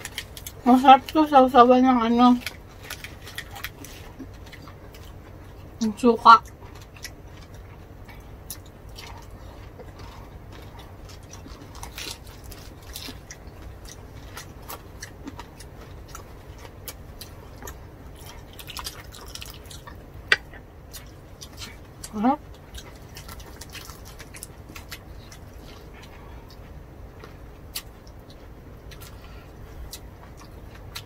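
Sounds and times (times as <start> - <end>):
chewing and biting food: 2.2 - 31.0.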